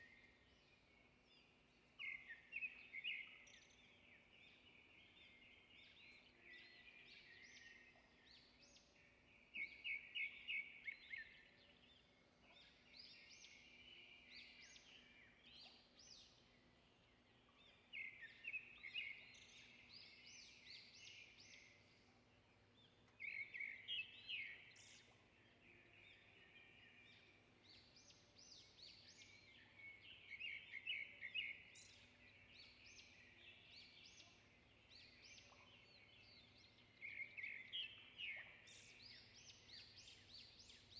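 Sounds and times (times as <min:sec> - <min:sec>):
faint bird chirps and trills: 0:00.0 - 0:40.9.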